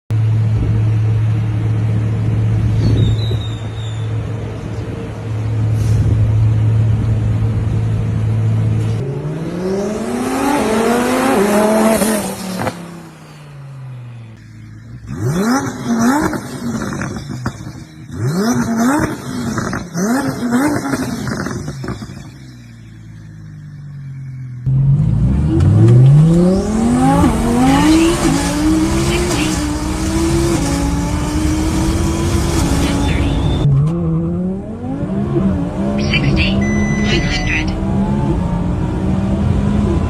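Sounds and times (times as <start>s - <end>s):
sports car engine revving: 0.2s - 40.0s.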